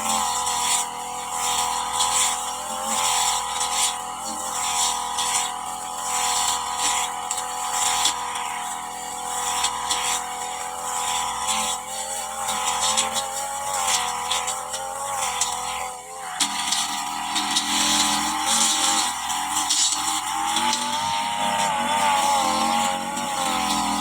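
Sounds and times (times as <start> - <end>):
brush cutter engine at high revs: 0.0 - 24.0.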